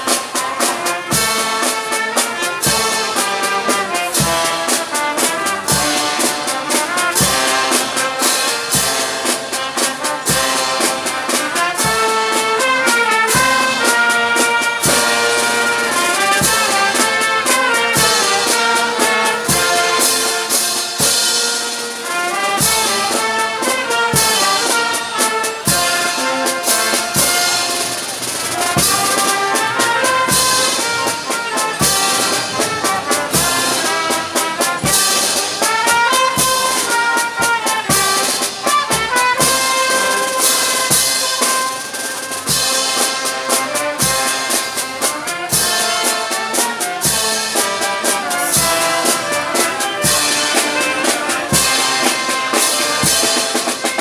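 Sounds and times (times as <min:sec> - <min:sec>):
drums steady beat: 0:00.0 - 0:54.0
trumpets and trombones melody: 0:00.0 - 0:54.0.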